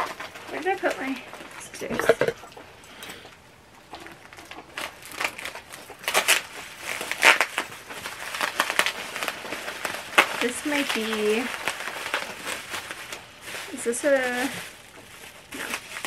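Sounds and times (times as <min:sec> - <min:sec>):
packing material crinkling: 0:00.0 - 0:02.2, 0:03.8 - 0:16.0.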